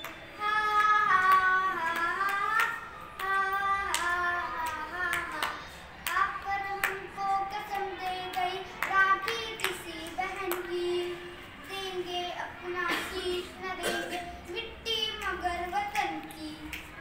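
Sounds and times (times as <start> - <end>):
boy singing unaccompanied: 0.0 - 16.9.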